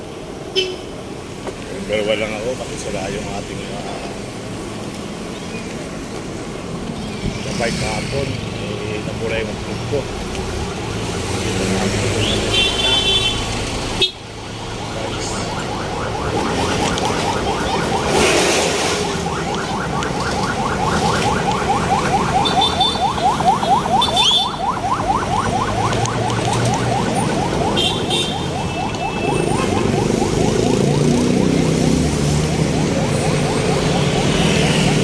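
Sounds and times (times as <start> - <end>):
street traffic noise: 0.0 - 35.0.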